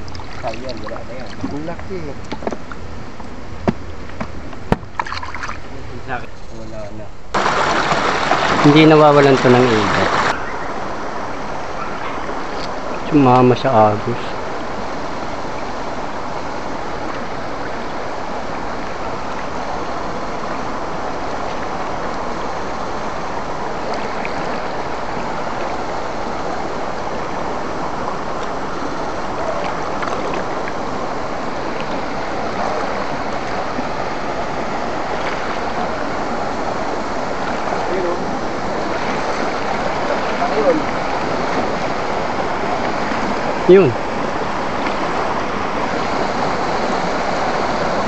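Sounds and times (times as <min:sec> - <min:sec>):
stream rushing over rocks: 0:07.3 - 0:48.0.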